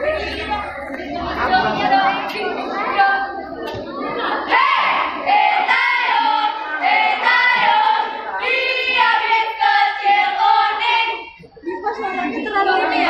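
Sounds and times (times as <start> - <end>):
girls singing in unison: 0.0 - 13.0.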